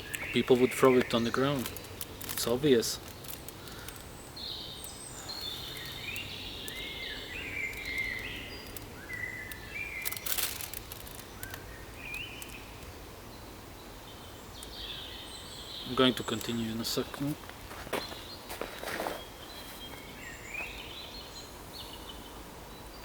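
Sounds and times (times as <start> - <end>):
birds chirping: 0.0 - 23.0
faint outdoor background: 0.0 - 23.0.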